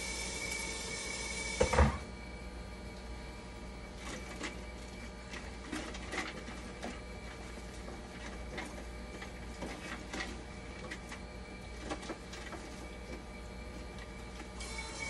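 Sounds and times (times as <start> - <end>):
machine hum and high whine: 0.0 - 15.0.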